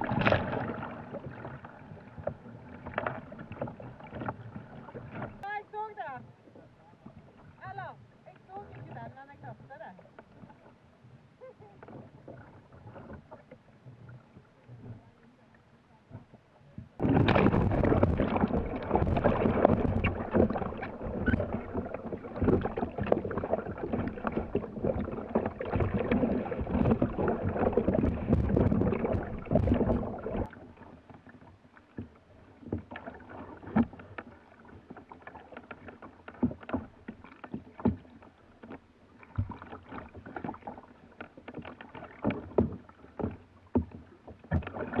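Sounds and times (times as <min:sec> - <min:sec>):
dense water splashing and sloshing: 0:00.0 - 0:05.5, 0:11.6 - 0:15.4, 0:16.1 - 0:45.0
waves slapping against hull: 0:00.0 - 0:45.0.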